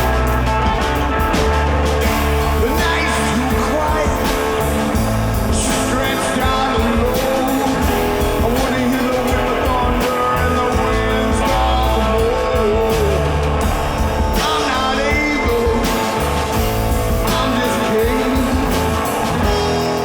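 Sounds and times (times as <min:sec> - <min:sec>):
bending lead guitar line: 0:00.0 - 0:20.0
rock band playing: 0:00.0 - 0:20.0.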